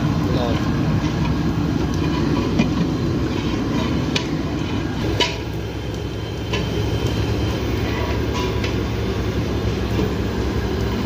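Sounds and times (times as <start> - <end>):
low rumble of cooking fire: 0.0 - 11.0.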